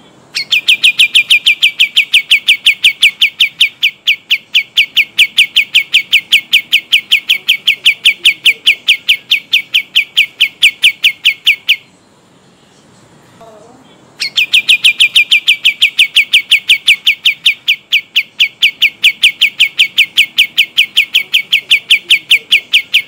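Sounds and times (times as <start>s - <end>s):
songbird rolling trill: 0.4s - 11.9s, 14.2s - 23.0s.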